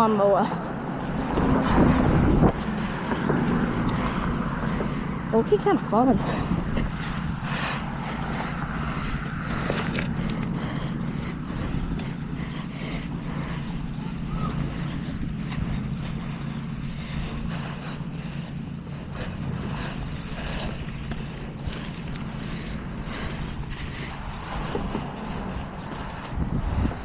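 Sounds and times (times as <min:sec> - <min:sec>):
riding lawn mower engine: 0:00.0 - 0:27.0.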